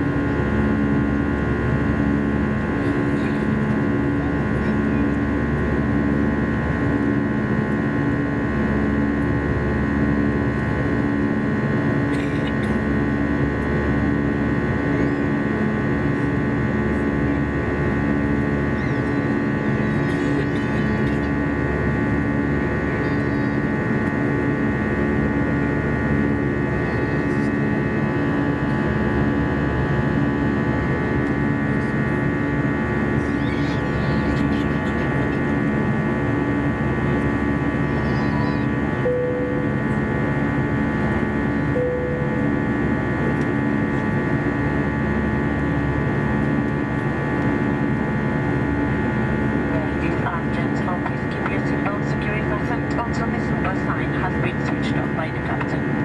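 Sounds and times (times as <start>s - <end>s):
airplane cabin drone: 0.0s - 56.0s
steady whining tones: 0.0s - 56.0s.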